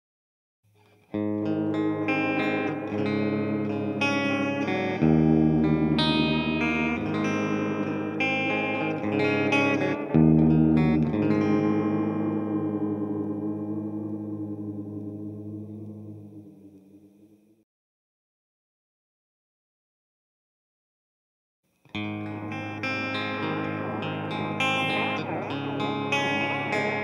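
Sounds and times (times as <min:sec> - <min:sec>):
electric guitar with pitch-shift effect: 0:00.7 - 0:17.6, 0:21.8 - 0:27.0.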